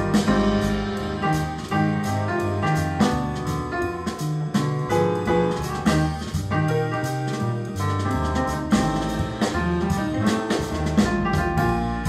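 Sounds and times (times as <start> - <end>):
jazz music with piano bass drums: 0.0 - 12.0.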